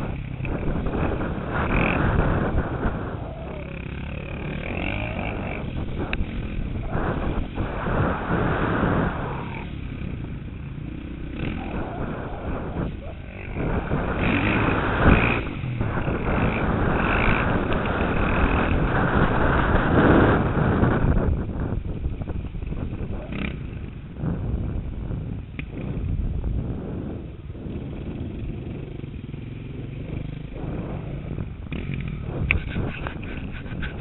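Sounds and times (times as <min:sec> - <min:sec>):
motocross bike engine revving: 0:00.0 - 0:21.8, 0:22.6 - 0:24.6, 0:27.6 - 0:34.0.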